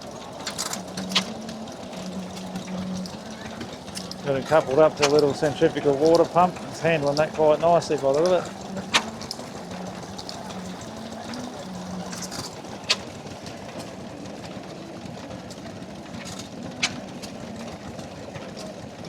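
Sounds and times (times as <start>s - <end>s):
stationary engine running: 0.0s - 19.0s.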